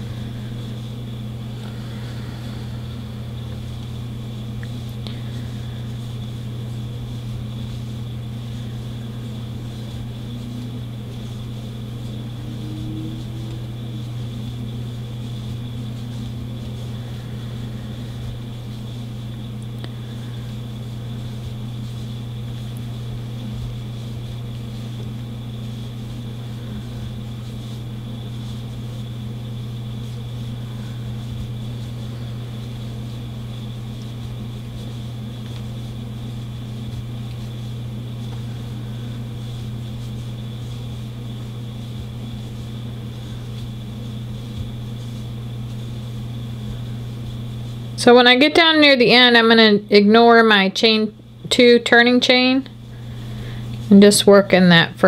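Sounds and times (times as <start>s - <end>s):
faint high whine: 0.0s - 55.0s
steady low hum: 0.0s - 55.0s.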